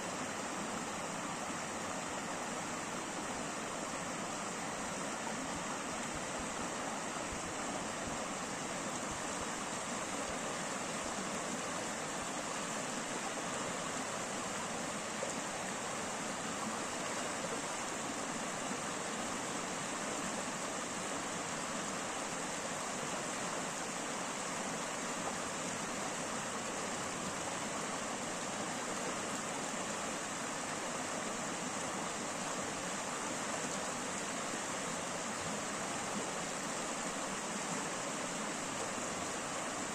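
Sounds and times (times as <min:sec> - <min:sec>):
creek flowing over rapids: 0:00.0 - 0:39.9.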